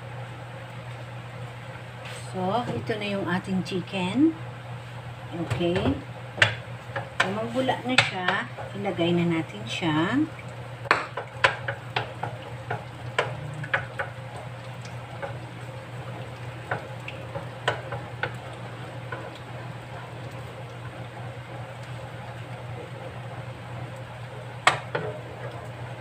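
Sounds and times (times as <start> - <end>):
steady low hum: 0.0 - 26.0
butter sizzling: 4.5 - 26.0.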